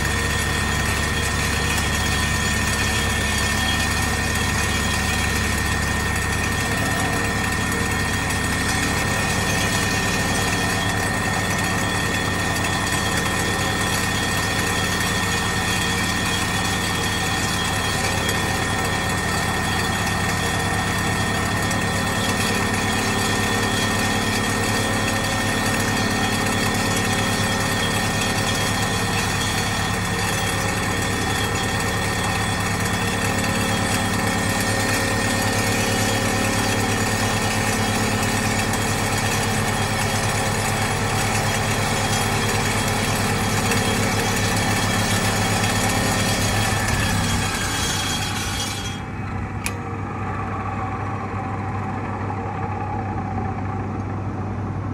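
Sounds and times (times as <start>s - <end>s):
hydraulic drive droning: 0.0s - 54.8s
vibratory pile hammer pulsing: 0.0s - 54.9s.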